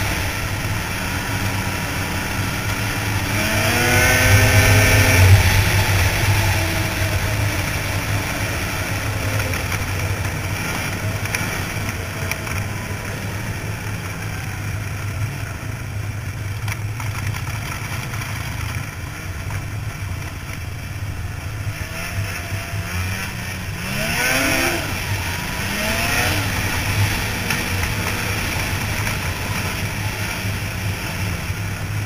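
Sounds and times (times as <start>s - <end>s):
snowmobile engine running: 0.0s - 32.0s.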